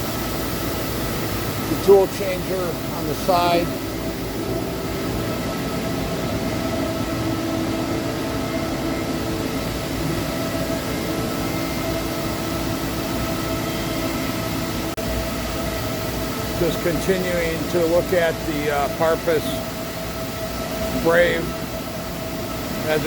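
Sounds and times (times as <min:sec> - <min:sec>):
boring mill machine hum: 0:00.0 - 0:23.0.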